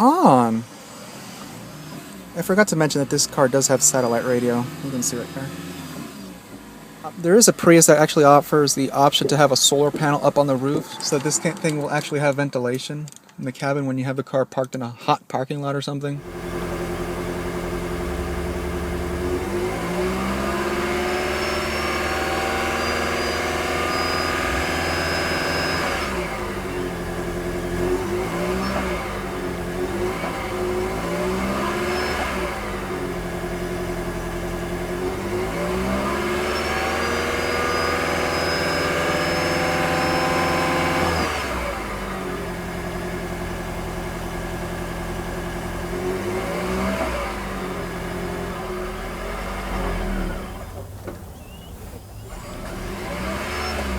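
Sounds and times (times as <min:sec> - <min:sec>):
car engine revving: 0:00.0 - 0:12.5, 0:16.2 - 0:53.9.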